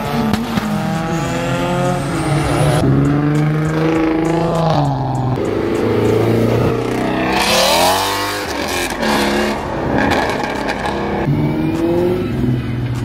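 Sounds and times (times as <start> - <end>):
car engine revving: 0.0 - 13.0
engine accelerating: 0.0 - 13.0.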